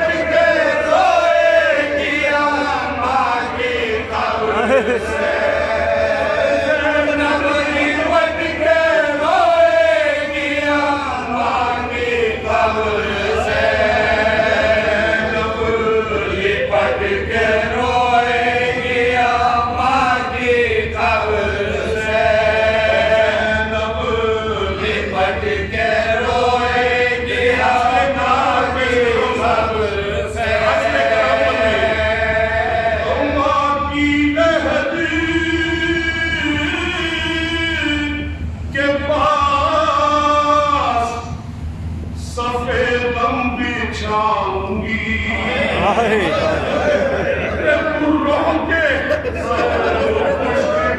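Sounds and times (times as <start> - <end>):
men chanting in unison: 0.0 - 41.3, 42.2 - 50.9
lead reciter chanting: 0.0 - 41.4, 42.2 - 50.9.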